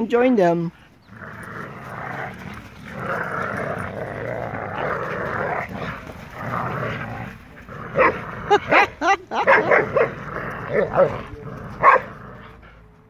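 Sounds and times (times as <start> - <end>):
dogs growling in play: 0.8 - 13.0.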